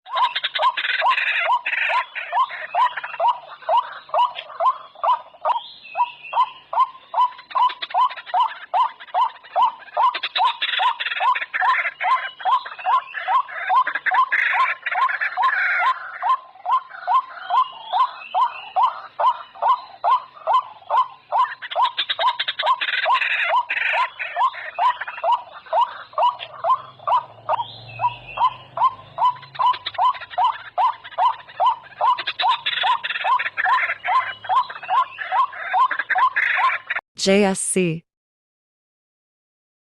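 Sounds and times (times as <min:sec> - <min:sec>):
harsh bird calls: 0:00.1 - 0:37.0.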